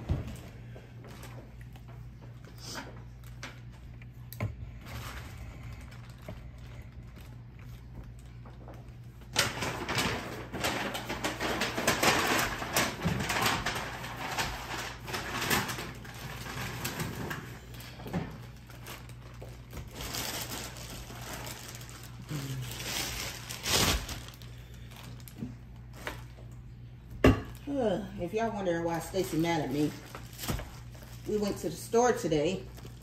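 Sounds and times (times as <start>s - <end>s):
plastic bag crinkling: 4.7s - 26.5s, 28.3s - 33.0s.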